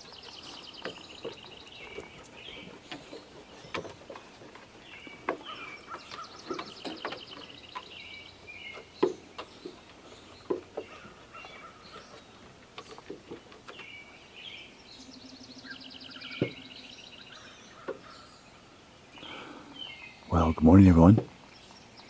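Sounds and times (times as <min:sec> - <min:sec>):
songbirds singing and trilling: 0:00.0 - 0:22.0.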